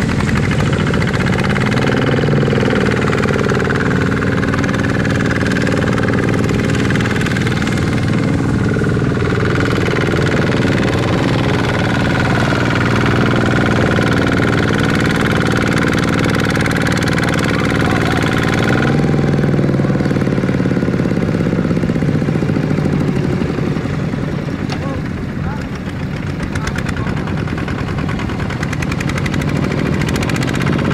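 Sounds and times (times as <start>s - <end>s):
diesel tractor engine under load: 0.0s - 30.9s
wheels churning through mud: 0.0s - 30.9s.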